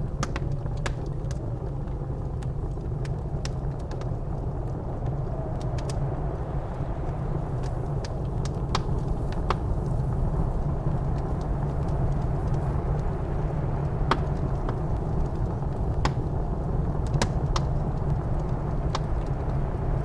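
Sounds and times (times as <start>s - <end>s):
blizzard wind rushing: 0.0s - 20.0s
fire popping: 0.0s - 20.0s
wood fire crackling: 0.0s - 20.0s.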